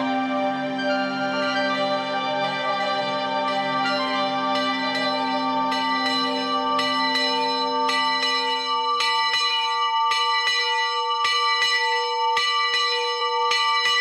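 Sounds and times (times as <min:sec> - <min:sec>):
church bell ringing: 0:00.0 - 0:14.0.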